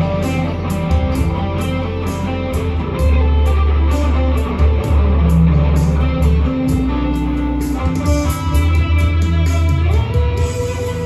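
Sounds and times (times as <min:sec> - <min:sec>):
electric guitar lead line: 0:00.0 - 0:11.0
low bass: 0:00.0 - 0:11.0.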